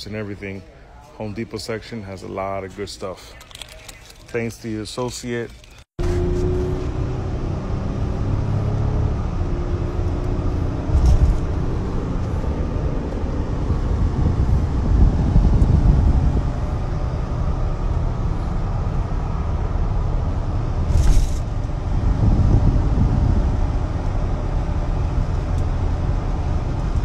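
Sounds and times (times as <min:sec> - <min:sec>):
road and engine rumble: 0:00.0 - 0:27.0.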